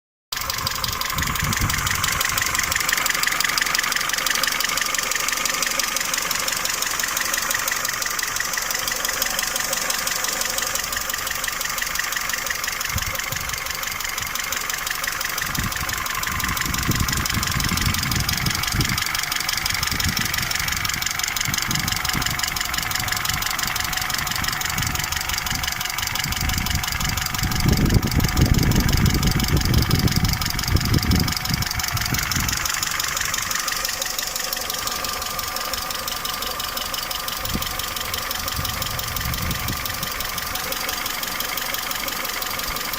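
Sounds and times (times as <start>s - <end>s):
petrol engine idling with knocking: 0.3s - 42.9s
low rumbling bumps: 0.4s - 4.8s, 5.8s - 41.5s.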